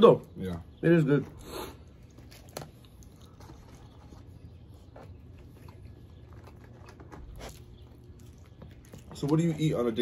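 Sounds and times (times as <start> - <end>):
chewing and eating: 0.0 - 10.0.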